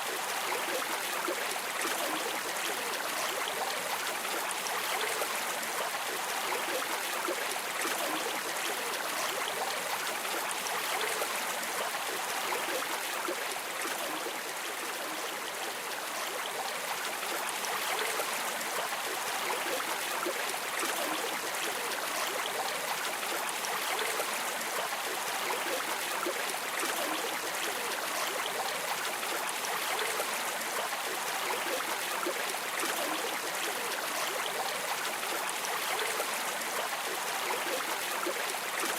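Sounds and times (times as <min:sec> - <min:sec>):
river water streaming: 0:00.0 - 0:38.9.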